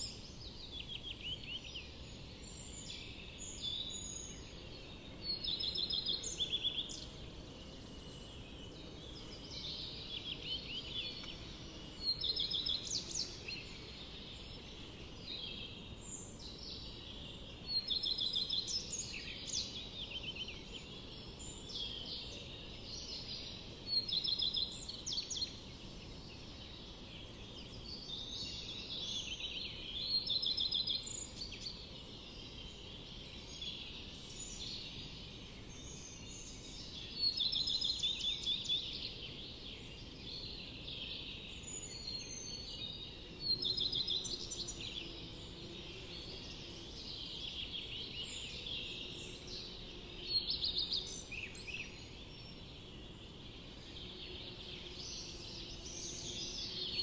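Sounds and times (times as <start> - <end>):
bird song with rapid trill: 0.0 - 57.0
chorus of soft bird calls: 0.0 - 57.0.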